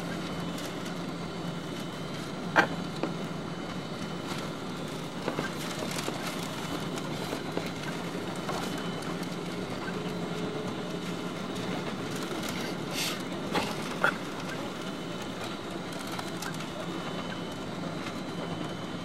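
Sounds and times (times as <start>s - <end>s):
aircraft cabin engine hum: 0.0s - 19.0s.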